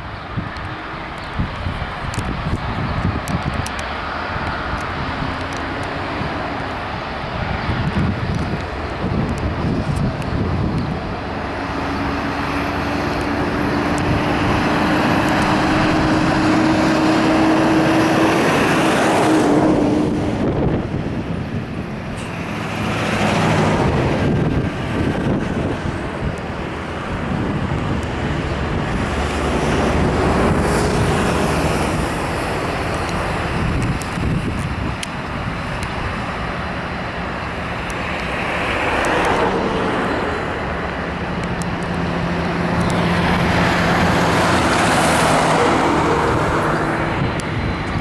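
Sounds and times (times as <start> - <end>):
jet engines roaring: 0.0 - 48.0.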